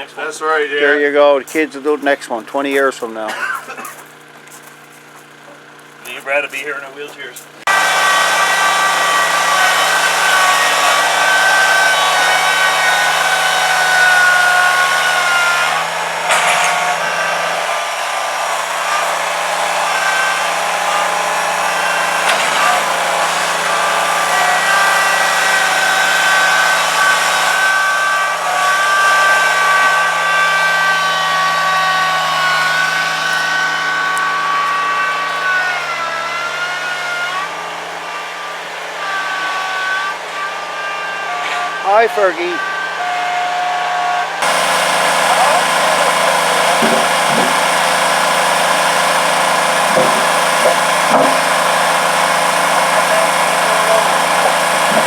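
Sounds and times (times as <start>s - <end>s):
motor running loudly: 0.0s - 55.0s.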